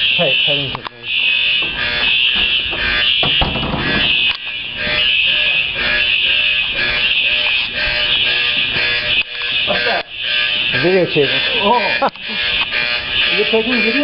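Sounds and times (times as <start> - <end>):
fire alarm tone: 0.0 - 14.0.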